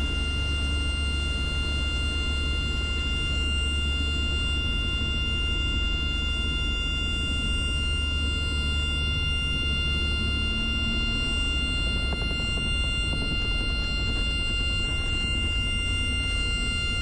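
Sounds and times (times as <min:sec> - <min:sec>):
helicopter rotor and engine drone: 0:00.0 - 0:17.0
high drivetrain whine: 0:00.0 - 0:17.0.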